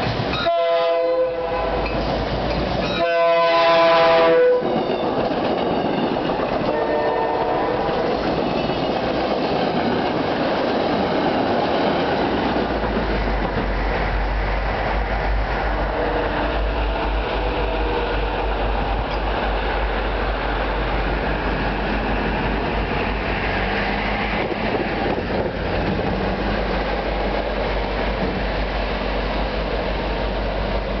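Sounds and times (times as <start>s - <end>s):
train rumbling on rails: 0.0s - 31.0s.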